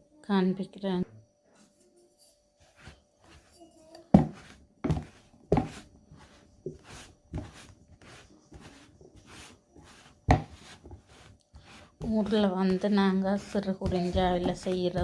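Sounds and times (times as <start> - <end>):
soft scraping: 2.6 - 15.0.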